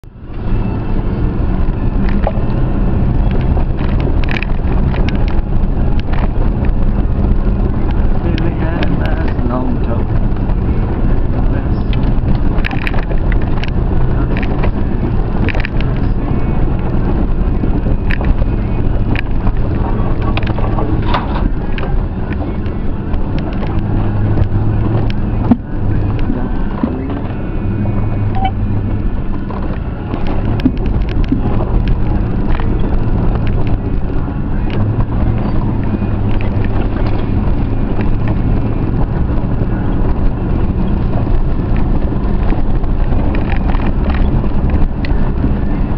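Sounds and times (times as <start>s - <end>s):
vehicle engine droning: 0.0s - 45.9s.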